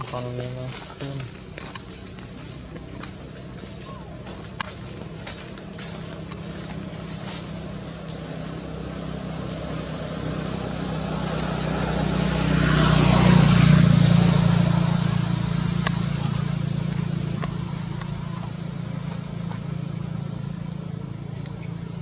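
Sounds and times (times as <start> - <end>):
vehicle passing: 0.0 - 22.0.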